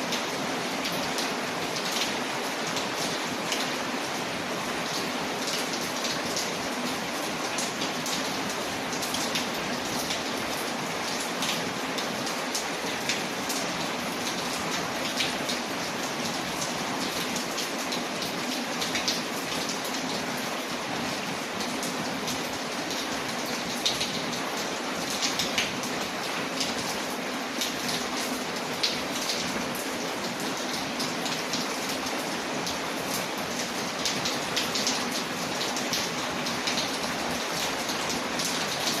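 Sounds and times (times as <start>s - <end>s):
rain on a window: 0.0s - 39.0s.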